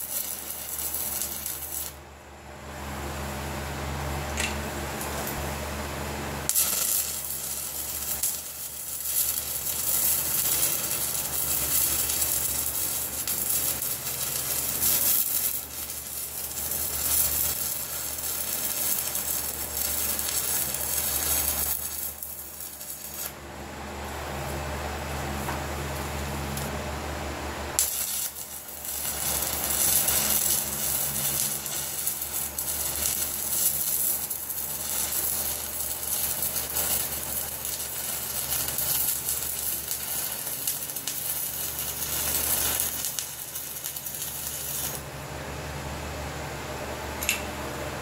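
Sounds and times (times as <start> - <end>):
welding arc crackling sizzle: 0.0 - 2.1, 2.8 - 45.6.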